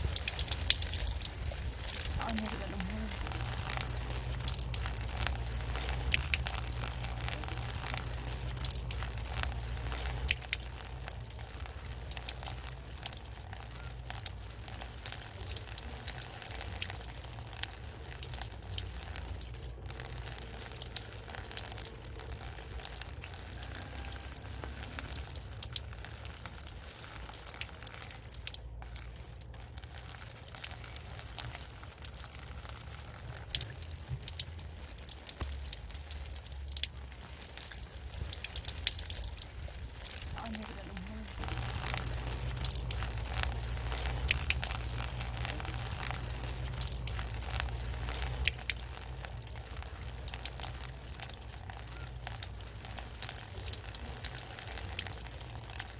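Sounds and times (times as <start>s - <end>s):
low rumble: 0.0s - 51.6s
rain drops pattering: 0.0s - 55.9s.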